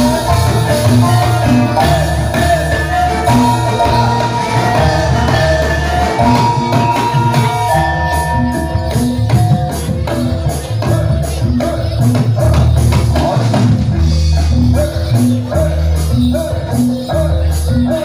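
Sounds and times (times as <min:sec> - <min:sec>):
low drum beats: 0:00.0 - 0:18.0
pitched percussion ringing: 0:00.0 - 0:18.0.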